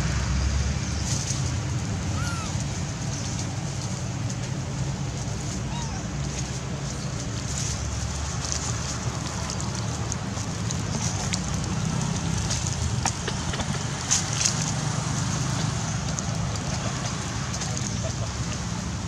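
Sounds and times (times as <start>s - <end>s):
dry leaves crackling and rustling: 1.0s - 17.9s.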